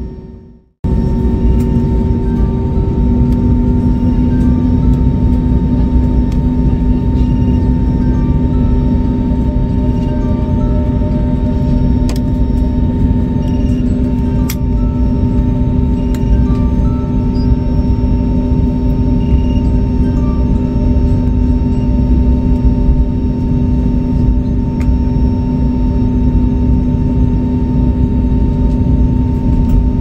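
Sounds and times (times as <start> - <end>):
airliner cabin rumble: 0.0 - 30.0
ambient music drone: 0.0 - 30.0.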